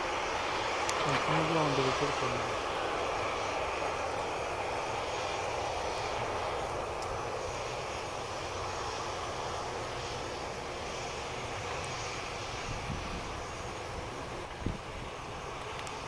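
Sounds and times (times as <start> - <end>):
jet engines of passing airliner: 0.0 - 16.0.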